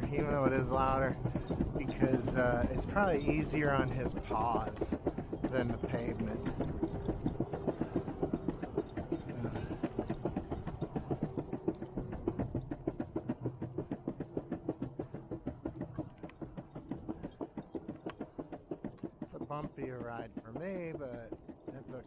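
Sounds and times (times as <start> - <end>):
wheels clacking over sidewalk joints: 0.0 - 22.0.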